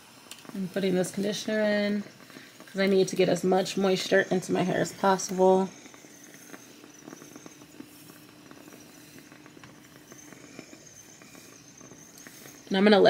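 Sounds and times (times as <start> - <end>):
faint steady hum: 0.0 - 13.0
hair steamer hissing and crackling: 0.0 - 13.0.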